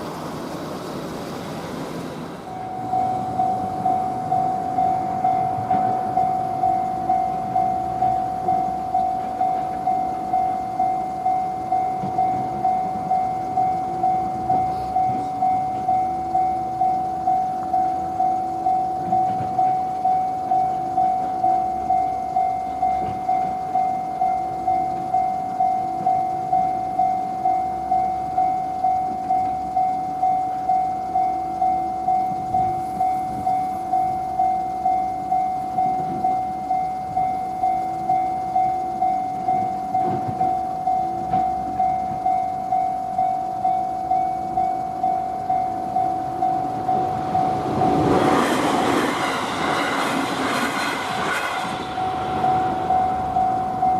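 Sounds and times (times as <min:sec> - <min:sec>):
railroad crossing bell ringing: 0:00.0 - 0:53.9.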